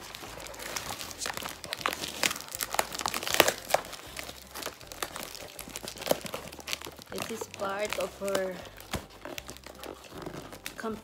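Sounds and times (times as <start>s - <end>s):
cardboard box tape pulled open: 0.0s - 11.0s.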